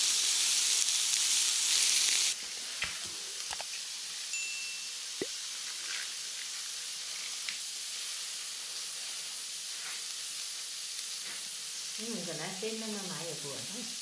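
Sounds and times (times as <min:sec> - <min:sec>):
meat sizzling on a grill pan: 0:00.0 - 0:14.0.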